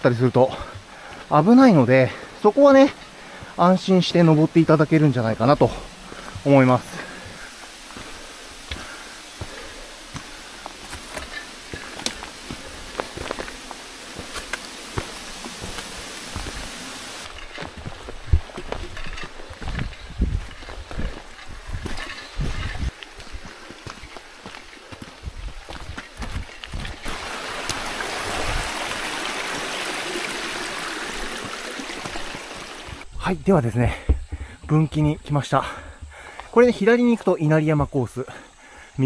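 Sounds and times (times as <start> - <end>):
mountain stream rushing: 0.0 - 33.1
footsteps on rocky gravel trail: 0.4 - 29.8, 31.2 - 33.1, 33.8 - 37.3.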